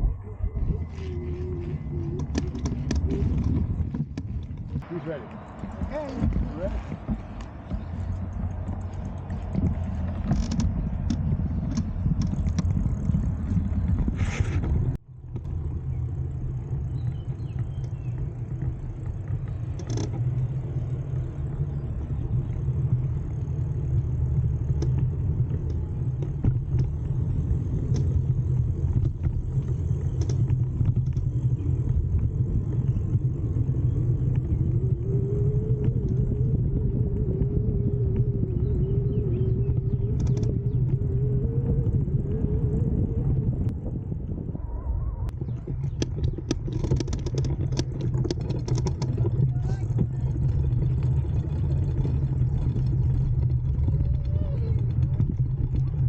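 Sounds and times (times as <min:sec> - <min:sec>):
bicycle tyres rolling on road: 0:00.0 - 0:56.0
wind buffeting microphone: 0:00.0 - 0:56.0.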